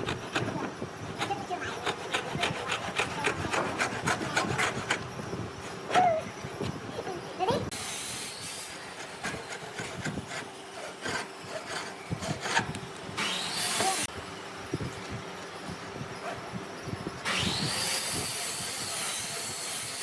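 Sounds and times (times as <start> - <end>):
rasping and sawing wood: 0.0 - 14.1, 17.3 - 20.0.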